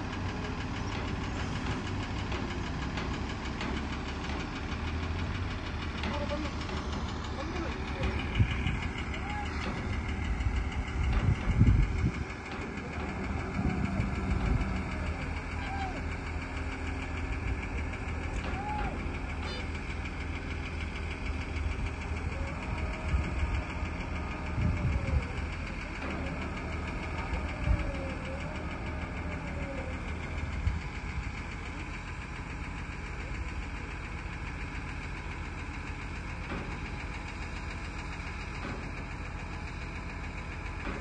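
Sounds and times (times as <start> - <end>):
crane diesel engine running: 0.0 - 41.0.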